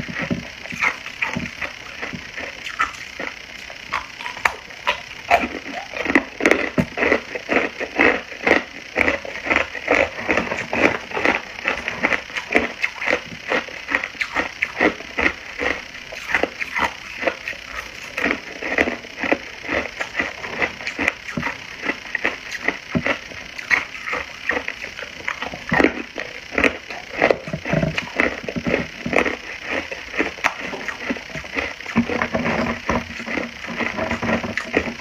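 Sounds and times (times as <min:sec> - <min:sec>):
ice being chewed: 0:00.0 - 0:35.0.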